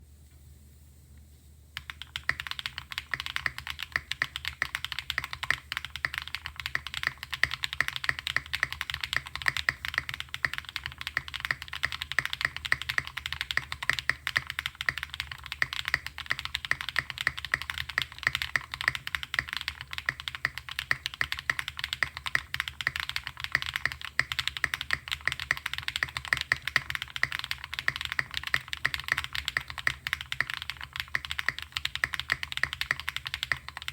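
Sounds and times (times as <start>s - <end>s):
fast mechanical keyboard typing: 1.8s - 33.9s.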